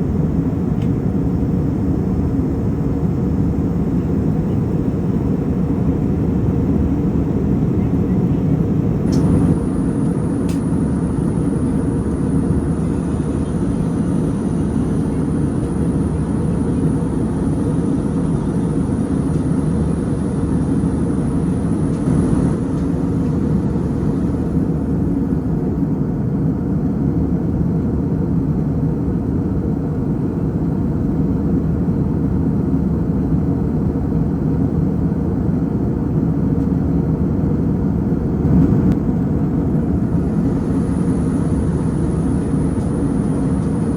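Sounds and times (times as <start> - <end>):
airliner cabin engine rumble: 0.0 - 43.9.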